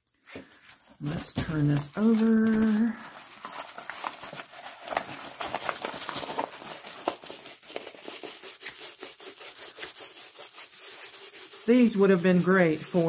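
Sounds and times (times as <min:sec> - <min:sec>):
plastic film and paper crinkling: 0:00.0 - 0:13.0.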